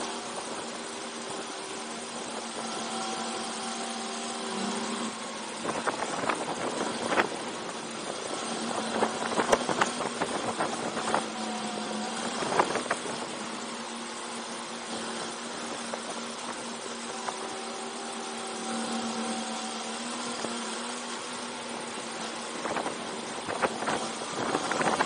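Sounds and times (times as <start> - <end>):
go-kart engine running: 0.0 - 25.0.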